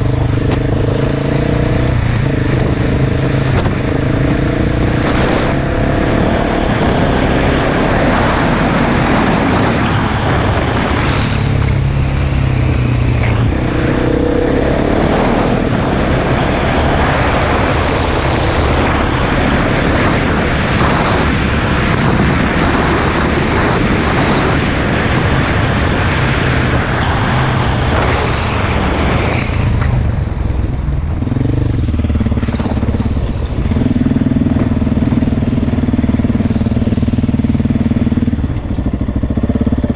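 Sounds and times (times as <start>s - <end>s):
dirt bike engine revving: 0.0s - 29.3s, 31.3s - 39.9s
dense rushing noise: 0.0s - 39.9s.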